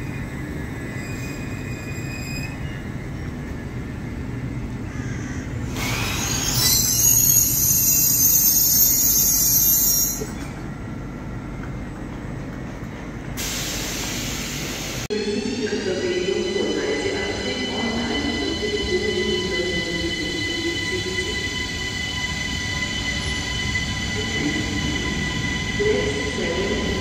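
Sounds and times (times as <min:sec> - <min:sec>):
train wheels squealing on rails: 0:00.0 - 0:04.1, 0:04.8 - 0:11.0, 0:13.4 - 0:27.0
electric train humming: 0:00.0 - 0:27.0.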